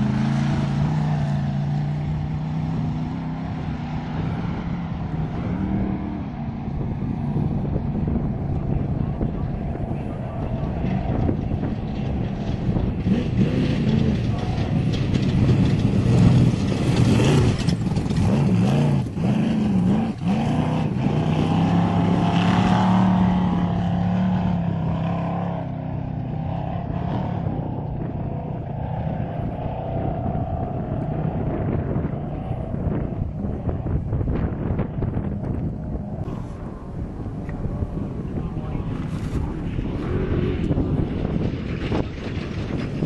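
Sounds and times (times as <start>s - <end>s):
race vehicle engine revving: 0.0s - 43.0s.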